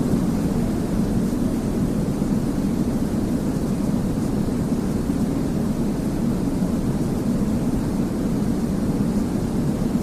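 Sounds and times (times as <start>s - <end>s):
deep white noise rush: 0.0s - 10.0s.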